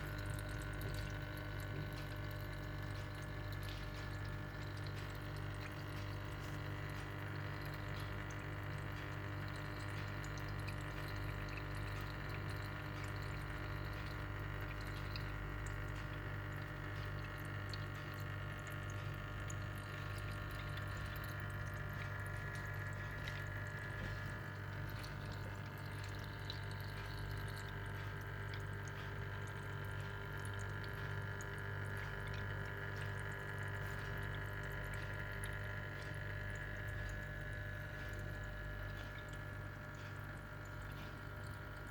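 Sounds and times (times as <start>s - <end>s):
pump humming: 0.0s - 41.9s
water trickling and dripping: 0.0s - 41.9s.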